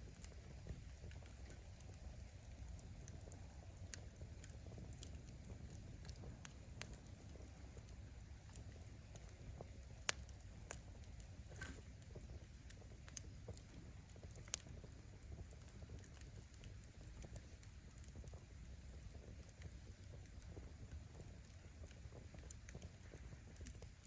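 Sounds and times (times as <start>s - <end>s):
firewood crackling and popping: 0.0s - 24.0s
wood fire rumble: 0.0s - 24.0s.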